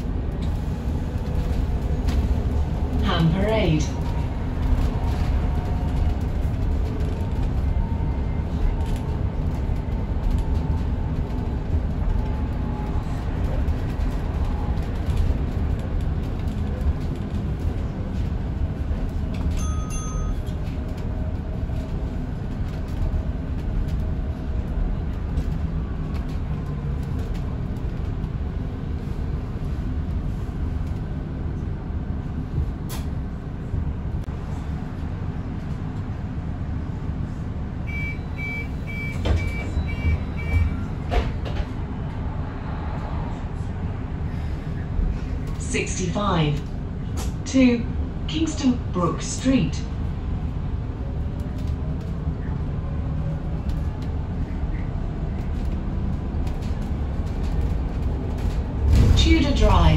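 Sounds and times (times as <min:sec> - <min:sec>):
road and tyre rumble: 0:00.0 - 0:59.9.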